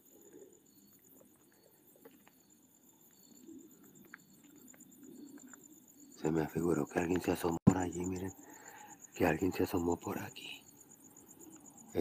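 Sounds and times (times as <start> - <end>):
cricket chirps: 0.0 - 12.0.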